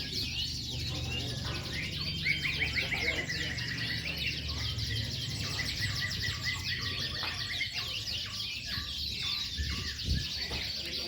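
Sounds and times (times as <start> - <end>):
canaries singing in chorus: 0.0 - 11.0.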